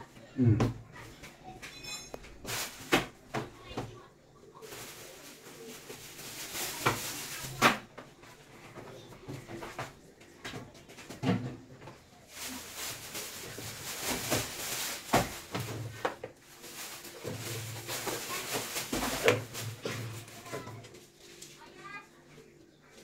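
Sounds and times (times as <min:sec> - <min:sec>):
plastic bags rustling: 0:01.7 - 0:10.2, 0:10.8 - 0:22.0.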